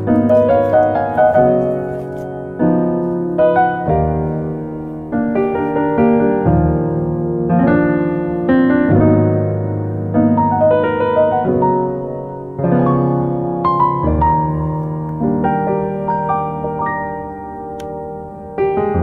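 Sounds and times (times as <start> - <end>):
piano playing chords: 0.0 - 19.0.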